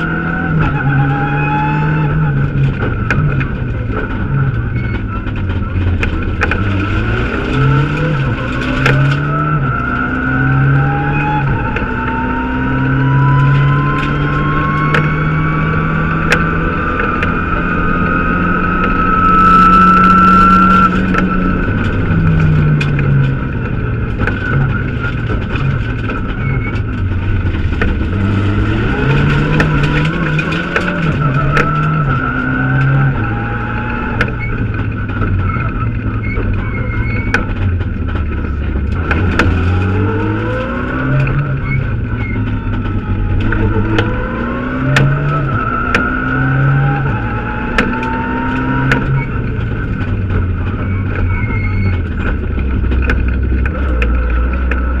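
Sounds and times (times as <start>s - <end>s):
car engine revving through shifts: 0.0s - 55.0s
rising engine whine: 0.0s - 55.0s.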